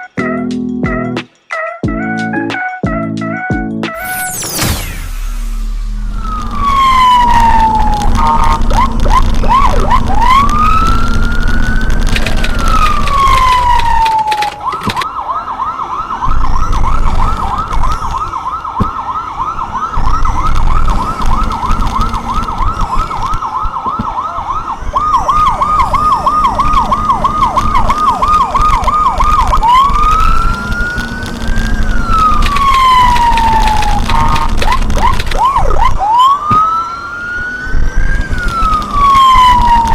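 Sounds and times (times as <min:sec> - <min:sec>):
electronic vehicle siren: 0:04.0 - 0:39.9
low vehicle rumble: 0:05.0 - 0:39.9.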